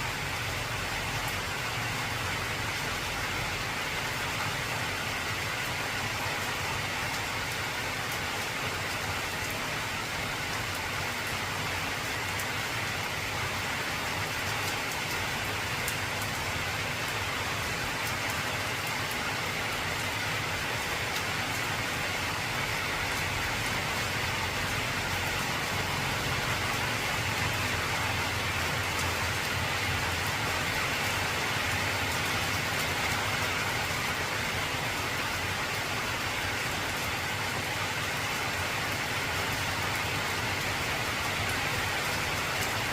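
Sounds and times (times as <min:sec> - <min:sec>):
heavy rain on tin roof: 0:00.0 - 0:42.9.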